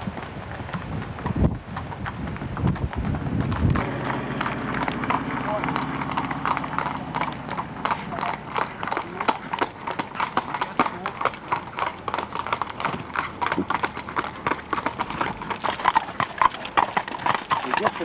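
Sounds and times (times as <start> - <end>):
horse hooves clip-clopping on road: 0.0 - 18.0.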